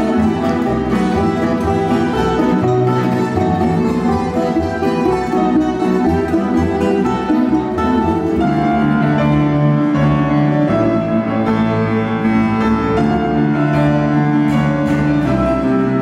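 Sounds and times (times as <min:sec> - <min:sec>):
grand piano piece: 0:00.0 - 0:16.0.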